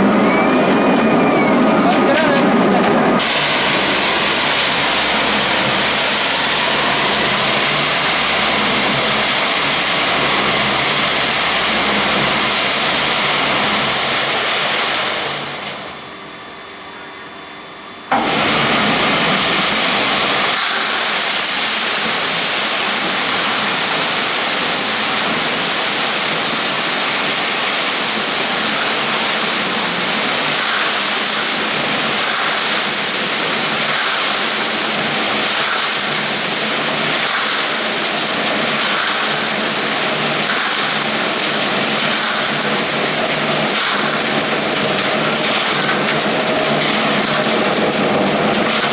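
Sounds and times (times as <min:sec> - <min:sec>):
concrete mixer running: 0:00.0 - 0:48.9
concrete rushing down chute: 0:01.6 - 0:15.8, 0:18.1 - 0:48.9.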